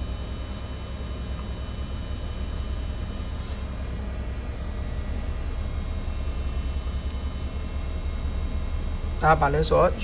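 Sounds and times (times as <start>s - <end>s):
low machinery drone: 0.0s - 10.0s.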